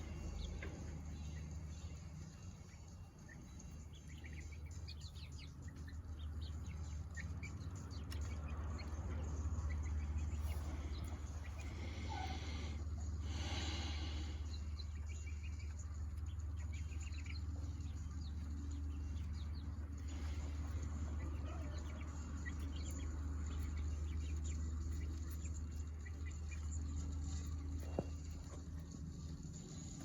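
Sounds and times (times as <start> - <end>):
steady low rumble: 0.0 - 30.0
young chickens clucking and cheeping: 0.0 - 30.0.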